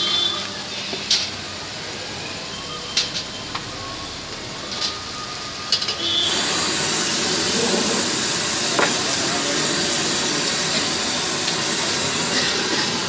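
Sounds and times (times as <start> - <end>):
gas burner hissing: 0.0 - 13.0
loud sizzling rush: 0.0 - 13.0.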